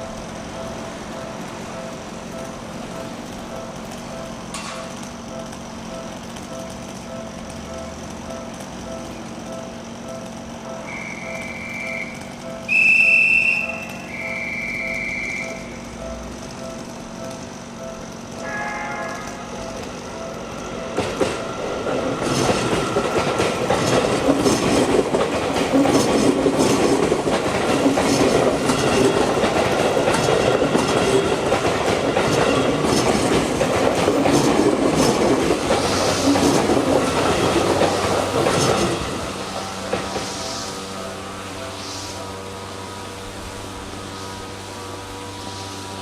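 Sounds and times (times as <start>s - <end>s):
wheels clacking over rail joints: 0.0s - 45.3s
crossing warning bell: 0.0s - 45.4s
train passing: 0.0s - 46.0s.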